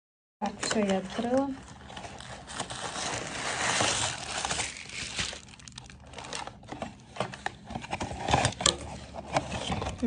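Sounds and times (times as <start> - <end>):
paper and card rustling: 0.4 - 10.0.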